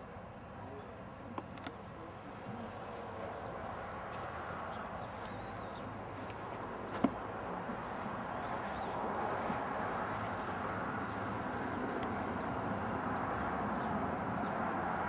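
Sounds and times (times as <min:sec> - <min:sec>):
outdoor background noise: 0:00.0 - 0:15.0
songbird chirping: 0:00.7 - 0:15.0.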